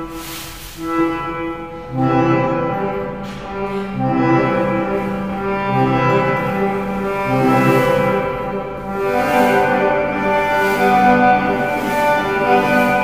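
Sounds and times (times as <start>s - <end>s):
slow held low music notes: 0.0s - 13.0s.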